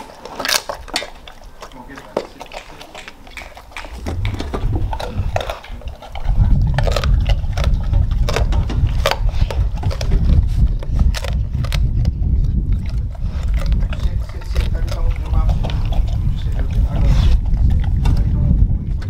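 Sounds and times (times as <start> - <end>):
dog crunching and chewing food: 0.0 - 19.0
teeth clicking on metal bowl: 0.0 - 19.0
steady low rumble: 3.7 - 19.0.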